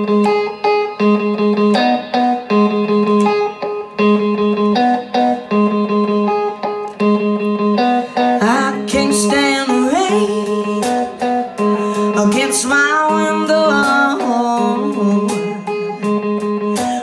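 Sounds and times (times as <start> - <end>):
guitar riff: 0.0 - 17.0.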